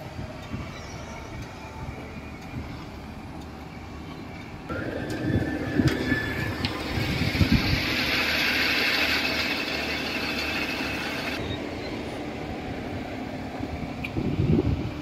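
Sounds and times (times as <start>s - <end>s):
heavy machinery engines rumbling: 0.0s - 15.0s.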